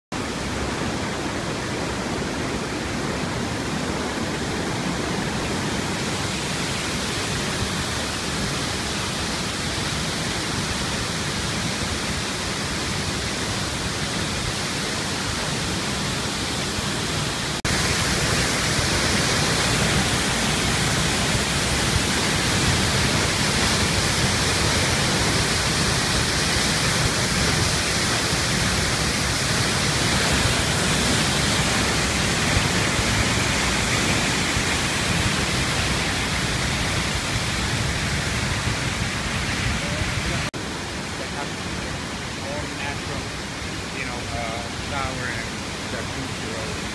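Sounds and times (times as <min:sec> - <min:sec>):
waterfall rushing: 0:00.1 - 0:46.9.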